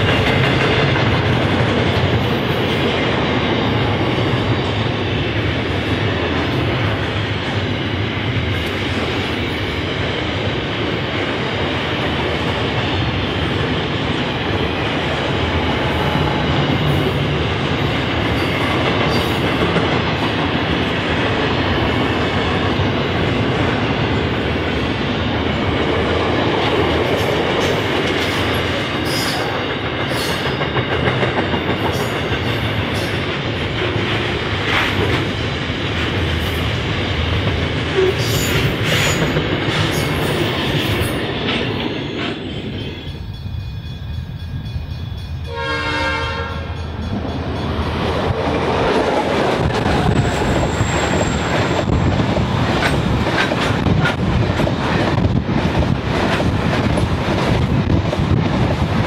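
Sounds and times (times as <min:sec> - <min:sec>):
freight train wheels rumbling: 0:00.0 - 0:59.0
train wheels clicking: 0:00.0 - 0:59.0.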